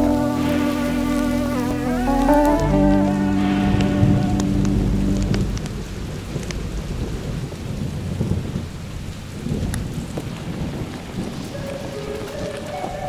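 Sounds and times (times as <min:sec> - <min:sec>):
rain pattering: 0:00.0 - 0:13.0
raindrops ticking on camera: 0:00.0 - 0:13.0.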